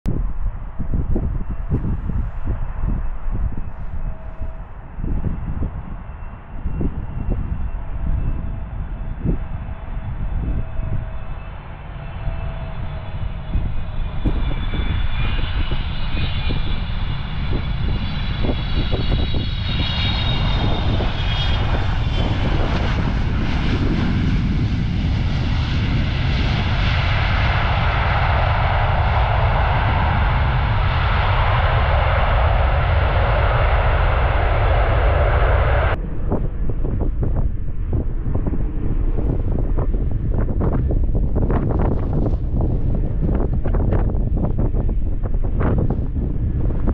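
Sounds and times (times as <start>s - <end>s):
low rumble: 0.0s - 46.9s
wind on microphone: 0.0s - 46.9s
jet engine roar: 0.1s - 46.9s
jet engine whine: 0.1s - 46.9s.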